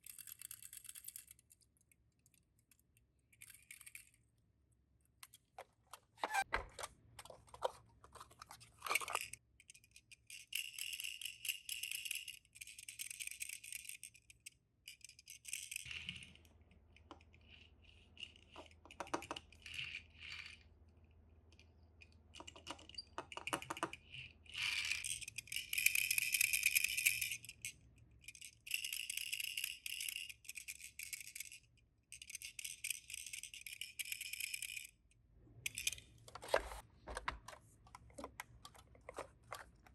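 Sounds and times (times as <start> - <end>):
toy cars clicking and rattling: 0.0 - 4.3, 7.2 - 20.8, 21.5 - 39.9.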